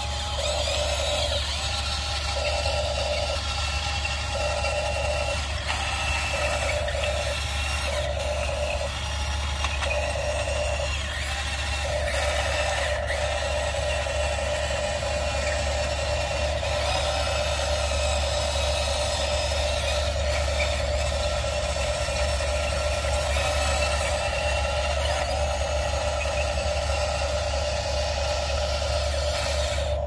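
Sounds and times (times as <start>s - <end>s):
pulsing tone: 0.0s - 30.0s
small electric motors whirring: 0.0s - 30.0s
steady hum: 0.0s - 30.0s.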